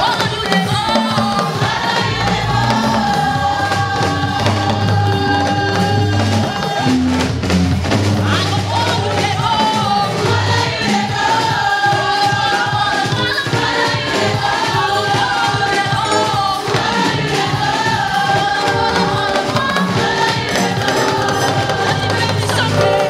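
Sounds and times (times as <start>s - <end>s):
women's choir singing: 0.0s - 7.2s, 8.2s - 23.0s
drum kit: 0.0s - 23.0s
keyboard: 0.0s - 23.0s.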